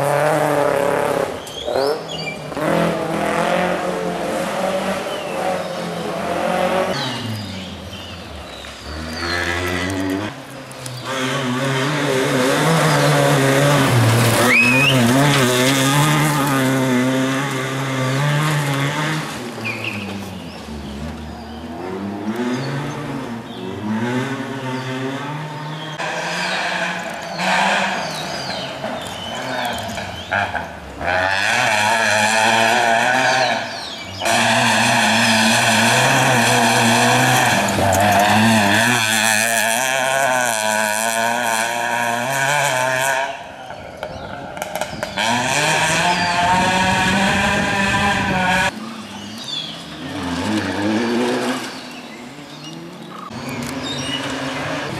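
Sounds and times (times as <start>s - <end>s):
rally car engine revving: 0.0s - 54.9s.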